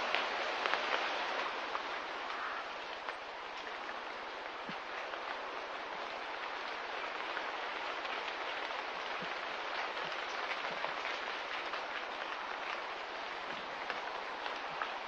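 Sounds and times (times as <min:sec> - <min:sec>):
light rain patter: 0:00.0 - 0:15.0.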